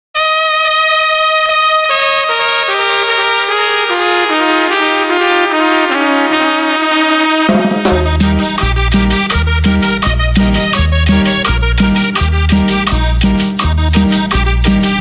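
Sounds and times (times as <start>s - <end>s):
trumpet section playing: 0.2s - 15.0s.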